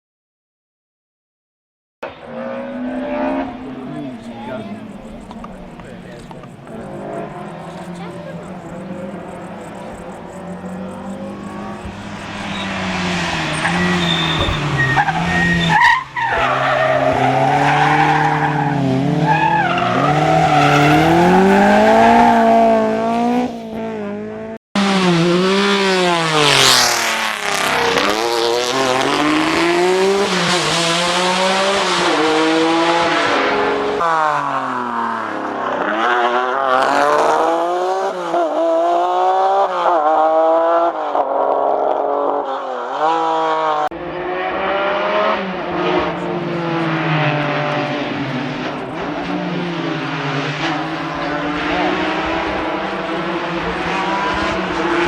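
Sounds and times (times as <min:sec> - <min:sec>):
rally car engines revving hard: 0:02.0 - 0:55.0.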